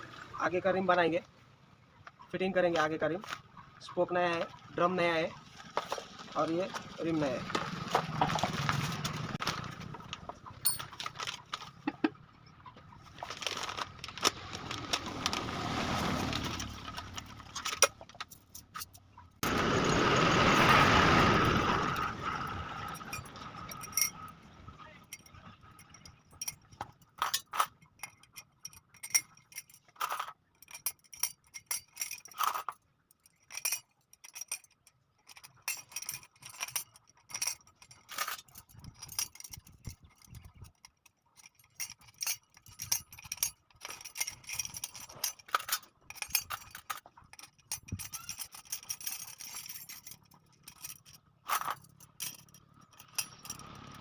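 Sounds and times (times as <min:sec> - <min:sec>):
metal spokes clinking: 0:02.2 - 0:54.0.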